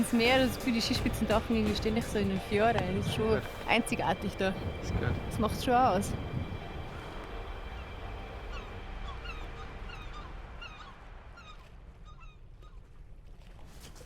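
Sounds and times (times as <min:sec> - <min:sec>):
low rumble: 0:00.2 - 0:13.2.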